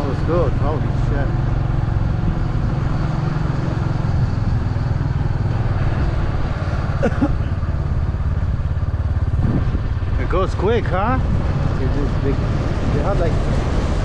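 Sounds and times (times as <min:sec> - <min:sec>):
road and wind noise: 0:00.0 - 0:14.0
vehicle engine running: 0:00.0 - 0:14.0.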